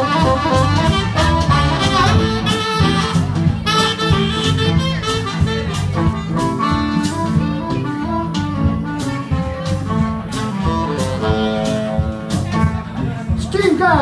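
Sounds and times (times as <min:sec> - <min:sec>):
saxophone lead: 0:00.0 - 0:12.9
blues band playing: 0:00.0 - 0:14.0.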